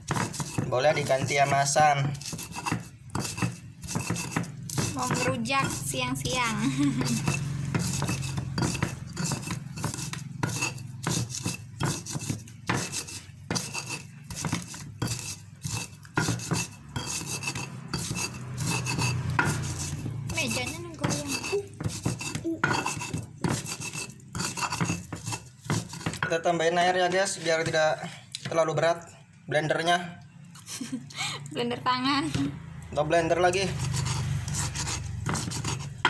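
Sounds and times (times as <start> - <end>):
stone pestle grinding in mortar: 0.0 - 28.8, 33.2 - 36.0.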